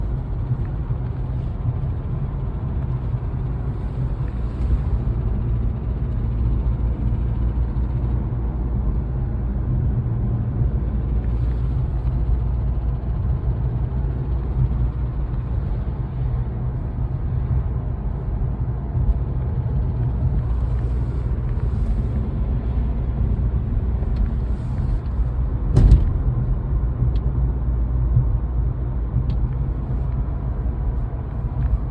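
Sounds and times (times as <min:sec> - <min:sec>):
car engine running with rattle: 0:00.0 - 0:31.9.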